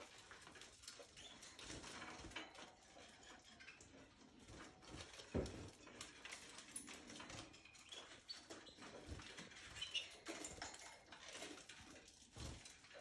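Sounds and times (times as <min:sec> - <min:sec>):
birds pattering in wire cage: 0:00.0 - 0:13.0.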